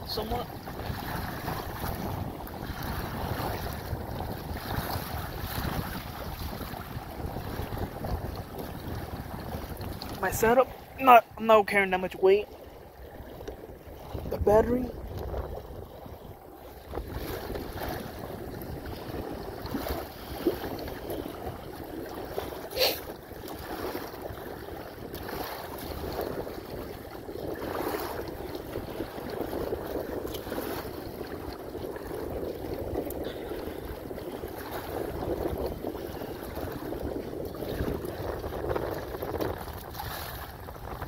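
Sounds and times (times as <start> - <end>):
water splashing against kayak hull: 0.0 - 41.0
wind buffeting microphone: 0.0 - 41.0.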